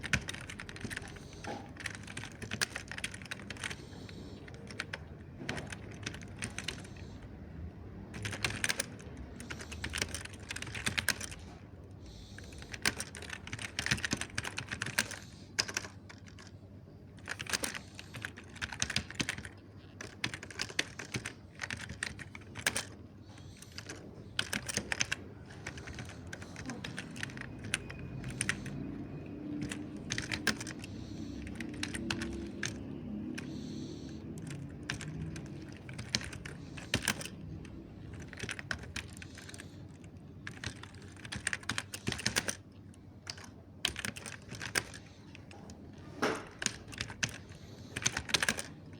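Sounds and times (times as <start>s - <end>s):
mechanical keyboard typing: 0.0s - 48.9s.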